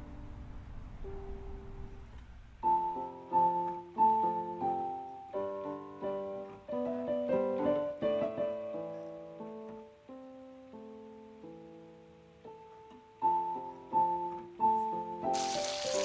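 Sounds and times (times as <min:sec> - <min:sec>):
piano notes and chords: 0:00.0 - 0:16.0.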